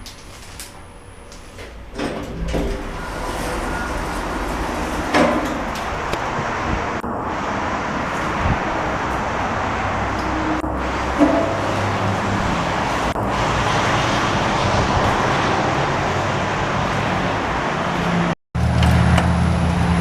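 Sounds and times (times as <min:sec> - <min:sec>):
lift doors sliding: 0:00.4 - 0:20.0
rushing noise with low rumble: 0:00.4 - 0:20.0.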